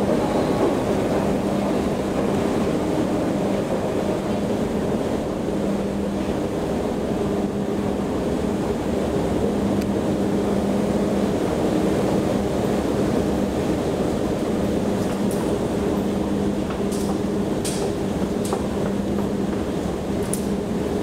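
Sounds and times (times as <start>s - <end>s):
escalator mechanical rumble: 0.0s - 21.0s.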